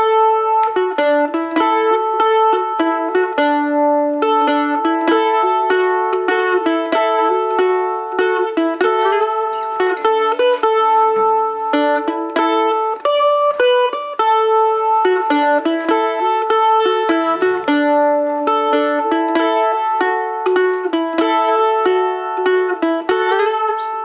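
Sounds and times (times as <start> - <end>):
plucked-string tune: 0.0 - 24.0.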